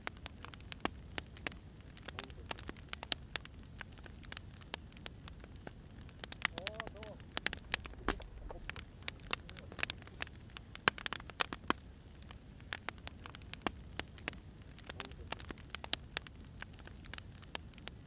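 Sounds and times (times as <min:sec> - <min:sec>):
firewood crackling: 0:00.0 - 0:18.0.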